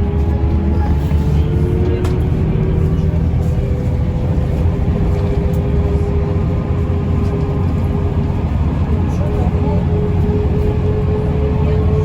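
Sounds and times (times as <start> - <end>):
bus interior drone: 0.0 - 12.0.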